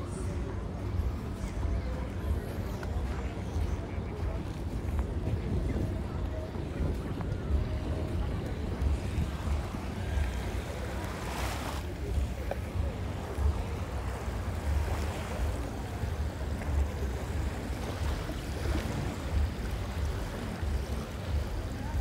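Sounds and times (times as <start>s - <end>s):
faint voices: 0.0s - 22.0s
gentle surf: 0.0s - 22.0s
wind rumbling on microphone: 0.0s - 22.0s.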